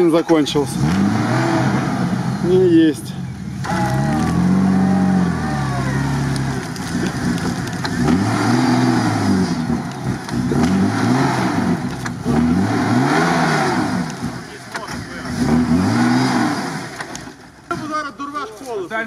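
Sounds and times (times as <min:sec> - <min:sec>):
off-road vehicle engine revving: 0:00.0 - 0:18.2.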